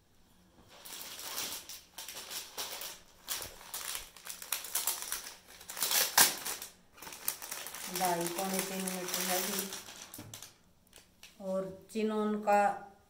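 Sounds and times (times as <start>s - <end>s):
fabric rustling and crinkling: 0.6s - 11.6s.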